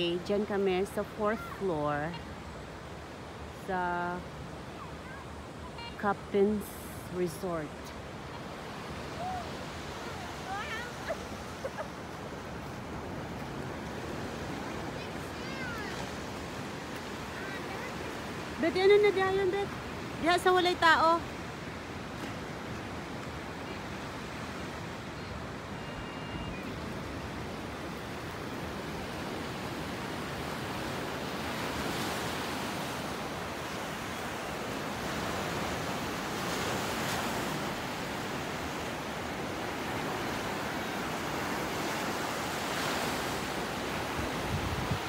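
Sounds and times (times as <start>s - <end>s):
ocean surf breaking on beach: 0.0s - 45.0s.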